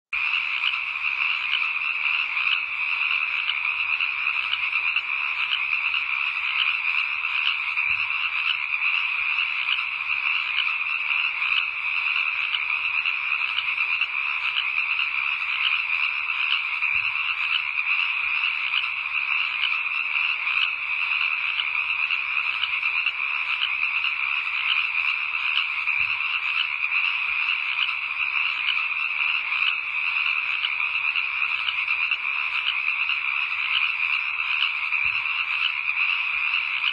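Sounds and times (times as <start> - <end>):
chorus of frogs calling: 0.2 - 36.9.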